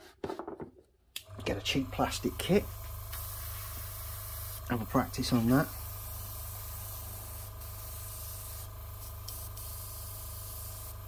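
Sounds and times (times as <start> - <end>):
airbrush hissing: 2.0 - 11.0.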